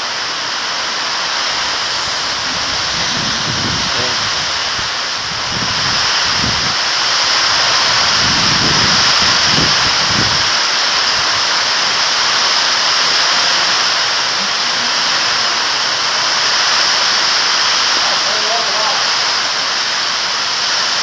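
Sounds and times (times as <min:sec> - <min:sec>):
heavy rain pouring: 0:00.0 - 0:21.0
low rumbling: 0:00.7 - 0:17.9.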